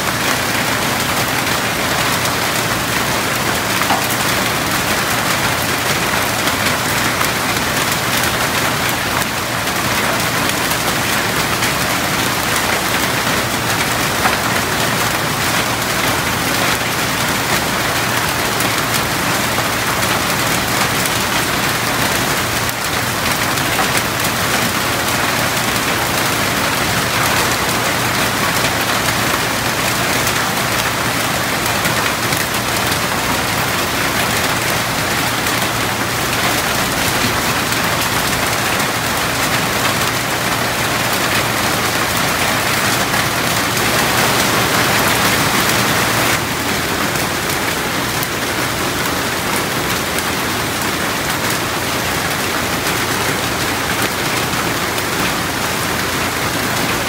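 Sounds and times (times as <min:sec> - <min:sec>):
heavy rain on water: 0:00.0 - 0:57.0.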